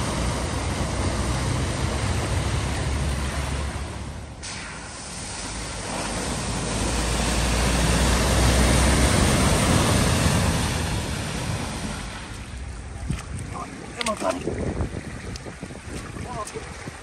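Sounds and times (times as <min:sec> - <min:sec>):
car engine rumble: 0:00.0 - 0:17.0
water spray rushing: 0:00.0 - 0:17.0.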